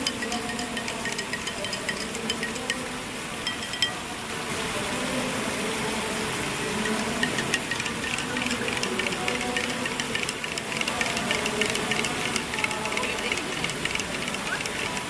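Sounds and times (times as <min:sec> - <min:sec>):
teaspoon clinking in a glass: 0:00.0 - 0:04.1, 0:06.6 - 0:15.0.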